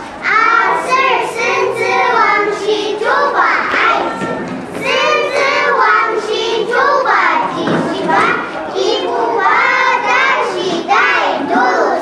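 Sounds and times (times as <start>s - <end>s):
children singing in unison: 0.0s - 12.0s.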